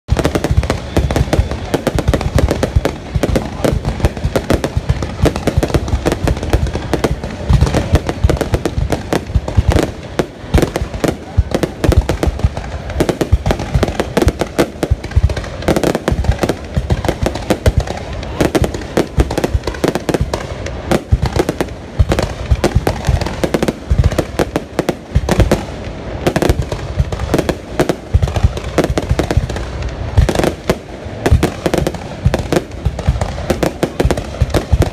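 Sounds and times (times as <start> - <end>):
fireworks rapid loud bangs: 0.1 - 34.9.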